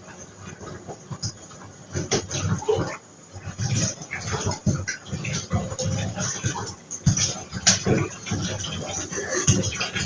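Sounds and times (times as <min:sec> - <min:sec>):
water running into bath: 0:00.0 - 0:10.0.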